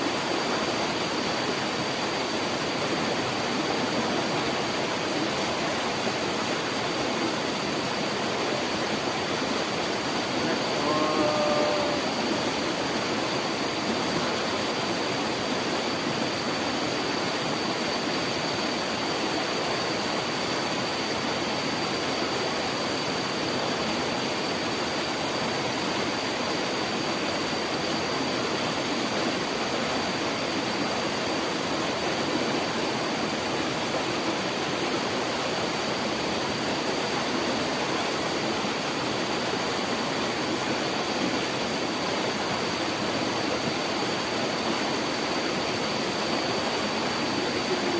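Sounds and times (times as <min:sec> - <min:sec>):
water rushing in a channel: 0:00.0 - 0:47.9.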